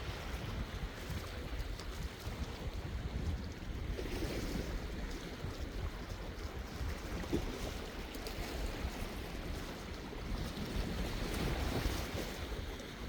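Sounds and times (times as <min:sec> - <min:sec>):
sea waves washing on shore: 0:00.0 - 0:13.0
wind rumbling on microphone: 0:00.0 - 0:13.0.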